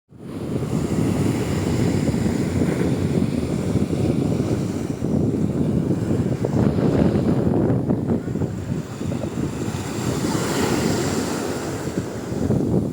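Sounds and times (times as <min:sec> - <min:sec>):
sea waves washing: 0:00.1 - 0:12.9
wind buffeting microphone: 0:00.1 - 0:12.9.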